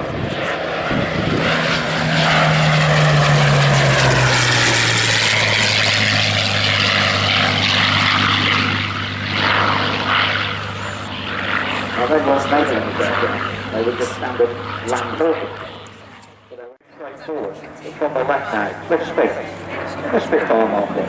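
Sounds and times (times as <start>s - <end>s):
fighter plane engine flying past: 0.0s - 21.0s.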